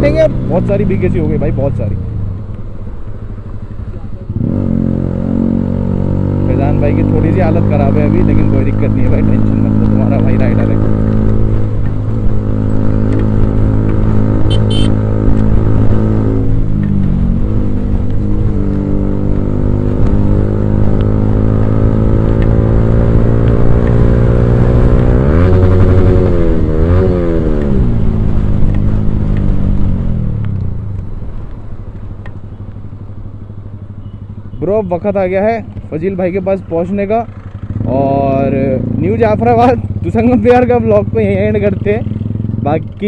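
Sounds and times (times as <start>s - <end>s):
motorcycle engine revving: 0.0s - 30.9s, 32.3s - 43.0s.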